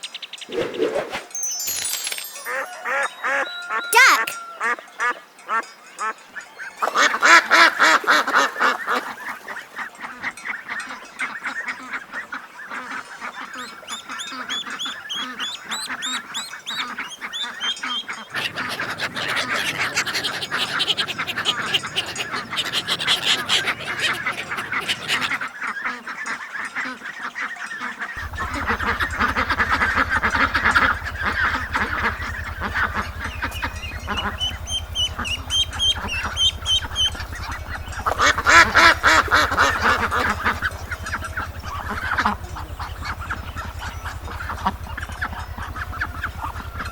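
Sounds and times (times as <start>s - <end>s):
flock of ducks quacking: 6.8s - 46.9s.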